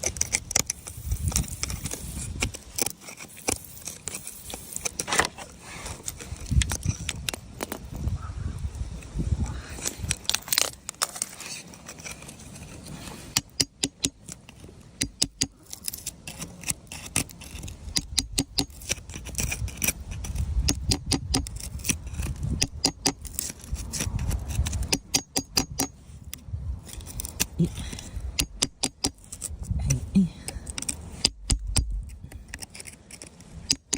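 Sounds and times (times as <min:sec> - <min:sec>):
stones clicking and scraping together: 0:00.0 - 0:08.1, 0:09.0 - 0:33.9.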